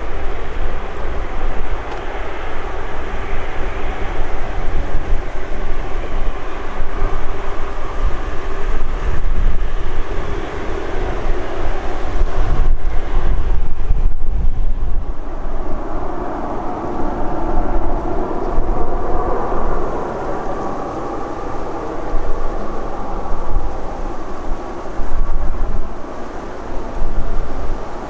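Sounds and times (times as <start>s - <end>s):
jet engines idling: 0.0s - 28.0s
wind rumble on microphone: 0.0s - 28.0s.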